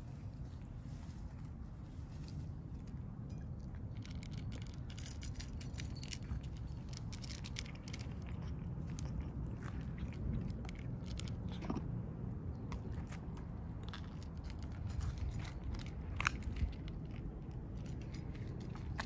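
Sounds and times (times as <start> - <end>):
low background rumble: 0.0 - 19.0
cats crunching food: 0.2 - 19.0.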